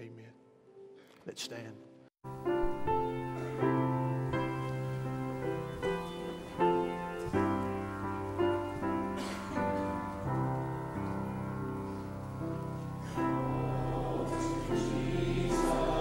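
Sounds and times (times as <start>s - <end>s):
piano playing hymn chords: 1.8s - 16.0s.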